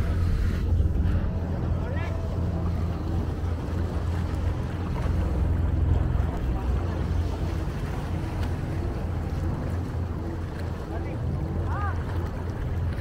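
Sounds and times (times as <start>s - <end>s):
water washing around boat: 0.0s - 13.0s.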